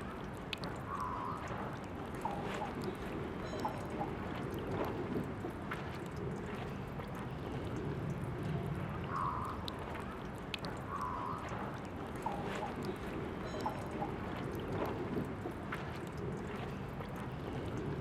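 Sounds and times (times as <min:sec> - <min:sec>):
water stream splashing: 0:00.0 - 0:18.0.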